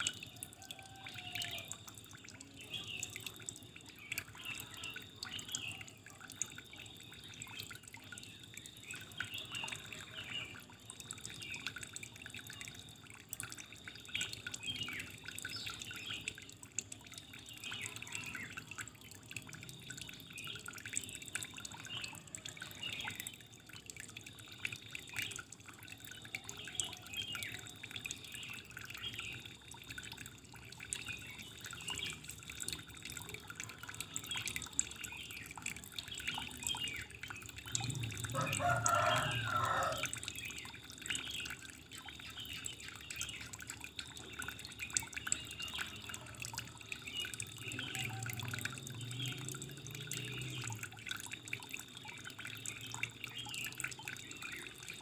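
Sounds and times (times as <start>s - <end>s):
faint running water: 0.0s - 55.0s
water drips and splashes: 0.0s - 55.0s.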